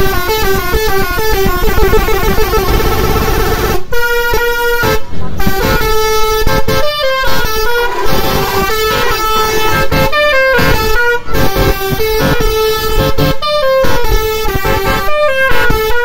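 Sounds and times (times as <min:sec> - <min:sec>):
trumpet horns playing melody: 0:00.0 - 0:16.0.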